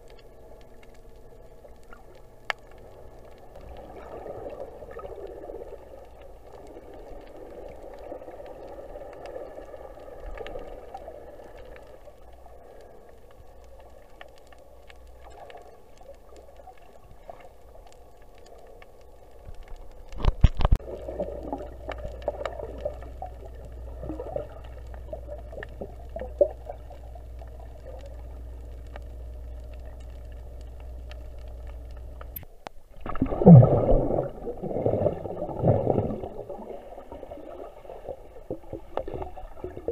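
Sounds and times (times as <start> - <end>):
faint steady hum: 0.0 - 39.9
underwater gurgling: 0.0 - 39.9.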